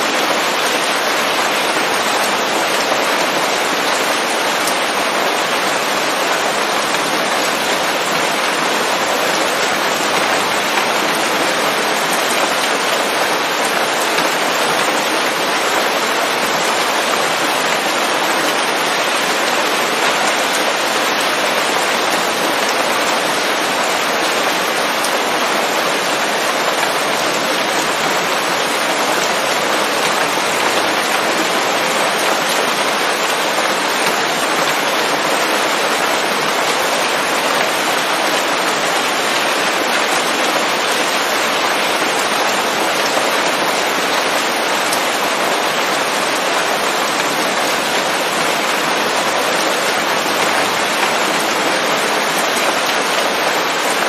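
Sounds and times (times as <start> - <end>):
rain on forest foliage: 0.0 - 54.0.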